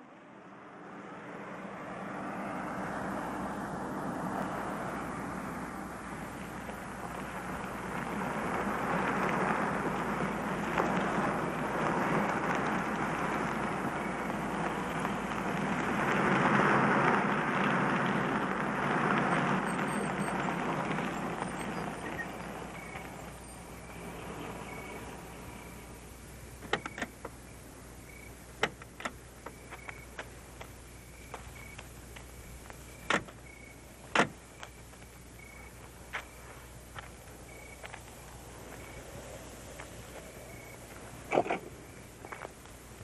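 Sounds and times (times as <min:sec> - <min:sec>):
tyre noise on rough road: 0:00.1 - 0:43.0
car engine running: 0:03.1 - 0:43.0.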